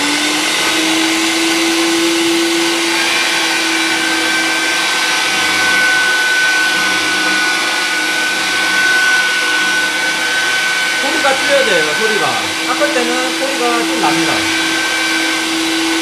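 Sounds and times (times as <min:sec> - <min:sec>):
pipe threading machine running: 0:00.0 - 0:16.0
high steady squeal: 0:01.9 - 0:16.0.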